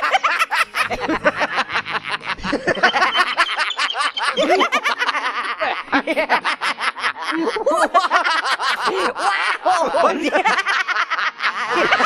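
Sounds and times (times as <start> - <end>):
high-pitched cartoon laughing: 0.0 - 12.0.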